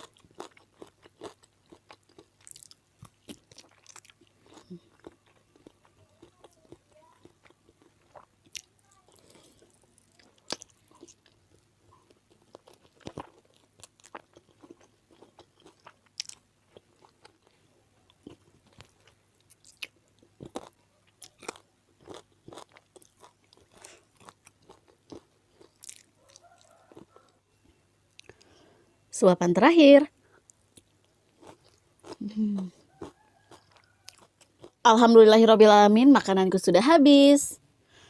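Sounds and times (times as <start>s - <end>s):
chewing with mouth smacks: 0.0s - 27.4s, 28.1s - 28.5s, 30.3s - 34.8s.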